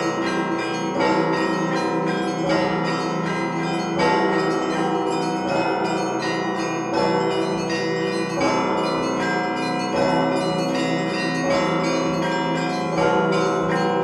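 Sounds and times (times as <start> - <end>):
small bells chiming fast: 0.0 - 14.0.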